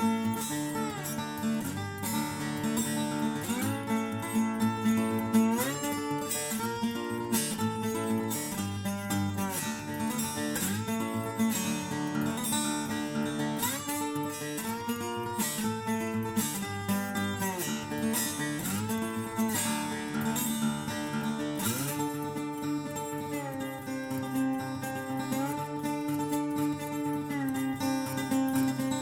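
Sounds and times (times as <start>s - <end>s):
acoustic guitar playing: 0.0s - 29.0s.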